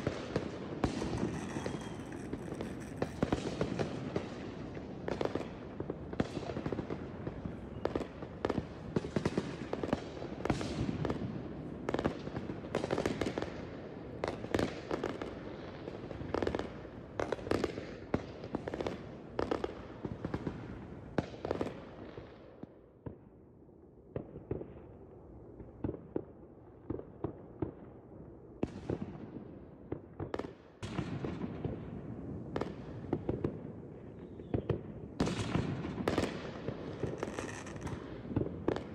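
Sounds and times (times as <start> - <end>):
fireworks bangs pops and crackles: 0.0 - 23.3, 24.1 - 25.0, 25.6 - 28.0, 28.6 - 38.9.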